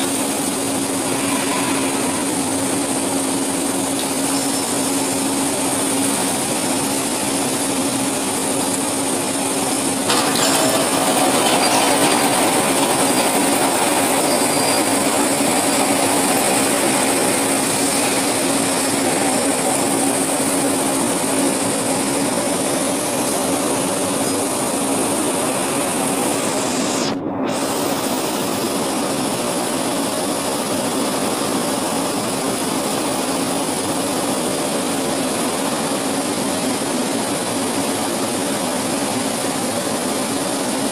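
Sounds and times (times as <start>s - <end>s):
steel mill machinery humming: 0.0s - 40.9s.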